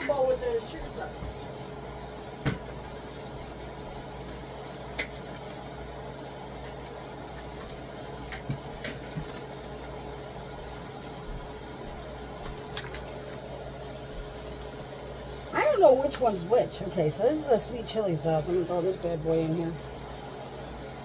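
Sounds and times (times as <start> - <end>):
gas burner hum: 0.0 - 21.0.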